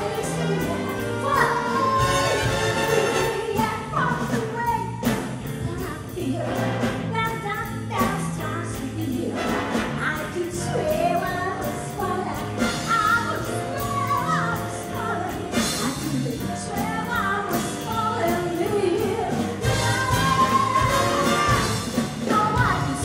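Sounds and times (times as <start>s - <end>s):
jazz big band playing: 0.0s - 23.0s
woman singing: 0.0s - 23.0s.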